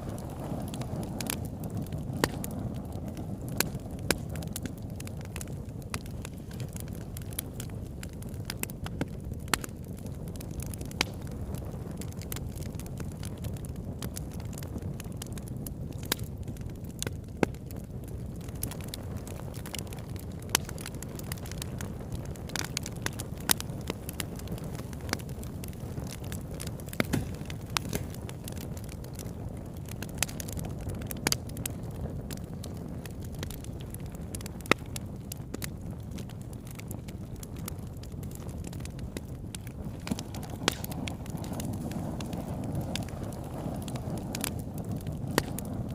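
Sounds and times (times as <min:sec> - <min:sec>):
bonfire flames roaring: 0:00.0 - 0:45.9
fire pops and crackles: 0:00.0 - 0:45.9.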